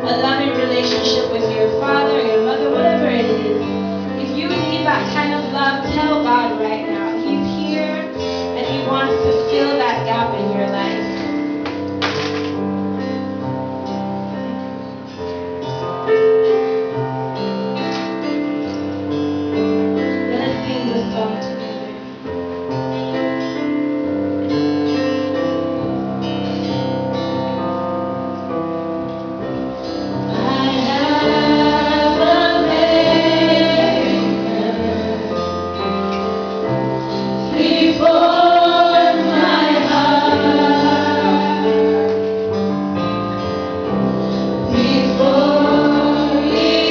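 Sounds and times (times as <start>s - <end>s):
held instrumental chords: 0.0s - 46.9s.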